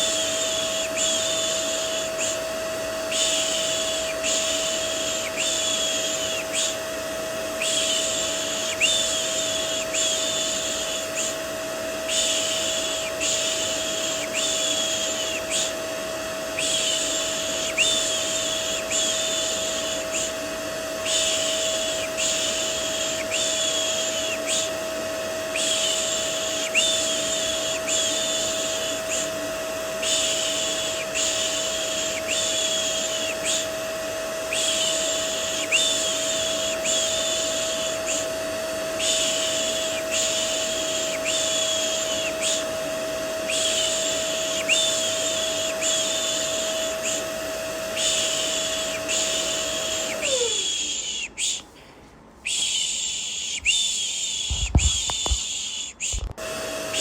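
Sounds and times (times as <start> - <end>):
vacuum cleaner running: 0.0 - 51.6, 52.4 - 57.0.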